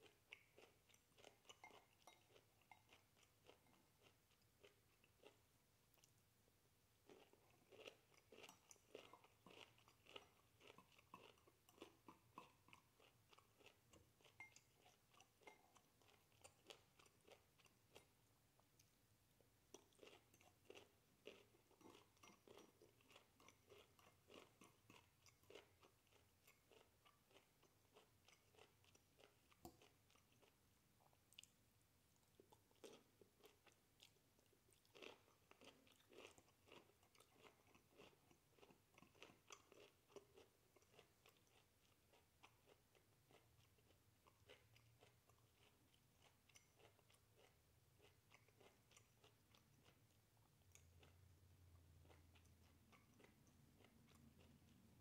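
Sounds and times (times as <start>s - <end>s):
person chewing crunchy food: 0.0s - 6.2s, 7.0s - 19.0s, 19.7s - 31.6s, 32.2s - 55.0s.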